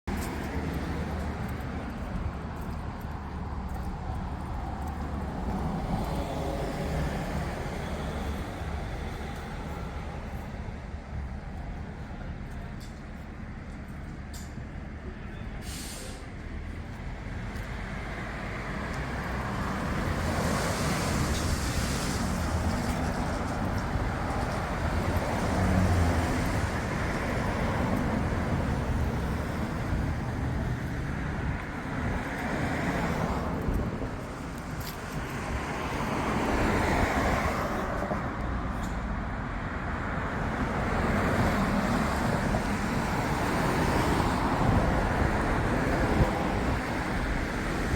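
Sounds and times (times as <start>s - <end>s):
road and tyre noise: 0.0s - 47.9s.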